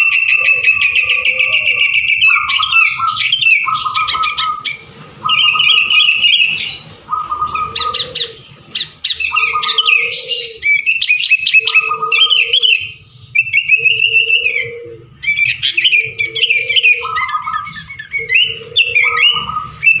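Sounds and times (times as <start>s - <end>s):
bulbul singing chirps and whistles: 0.0s - 20.0s
low repeated bird notes: 0.0s - 20.0s.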